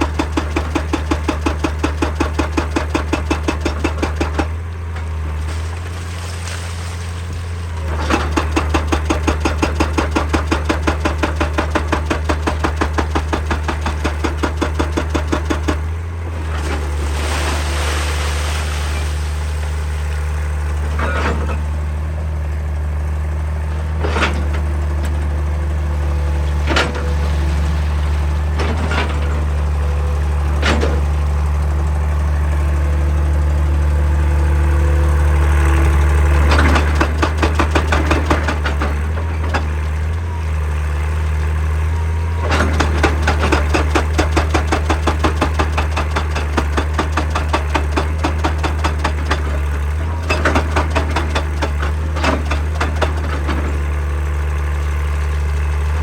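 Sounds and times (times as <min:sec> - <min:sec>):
diesel engine running: 0:00.0 - 0:56.0
hydraulic breaker pounding rock: 0:00.0 - 0:56.0.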